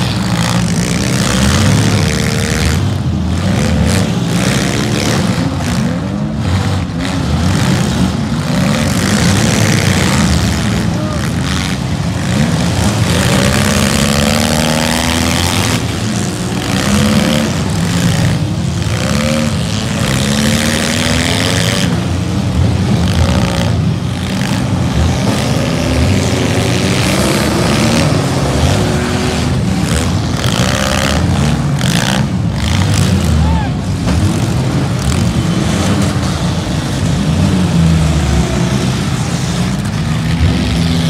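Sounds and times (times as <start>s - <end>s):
car engines revving hard: 0.0s - 41.0s.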